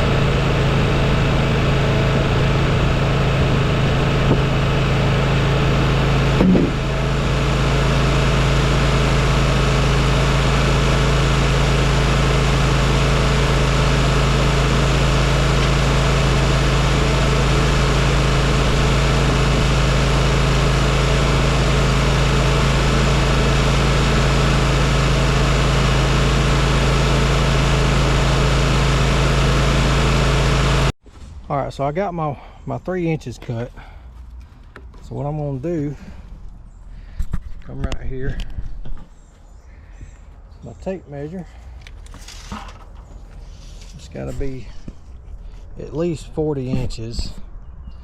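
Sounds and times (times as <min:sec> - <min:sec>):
sawmill engine running: 0:00.0 - 0:31.0, 0:39.7 - 0:47.5.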